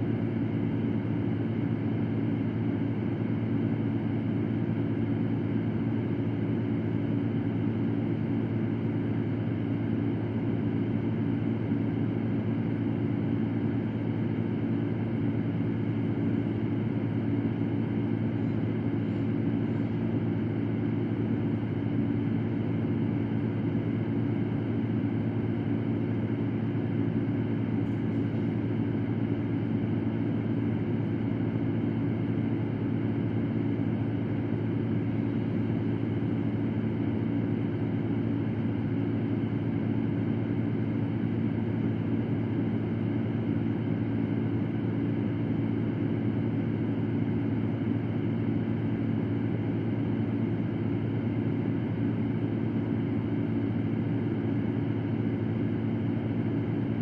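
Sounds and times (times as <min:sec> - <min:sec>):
electric fan humming: 0:00.0 - 0:57.0.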